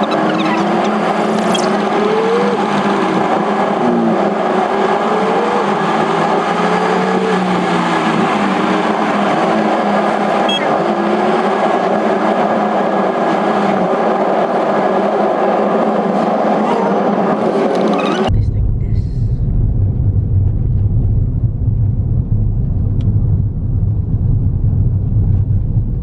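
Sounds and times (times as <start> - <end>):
car engine from inside cabin: 0.0 - 19.1, 19.7 - 26.0
road noise: 0.0 - 26.0.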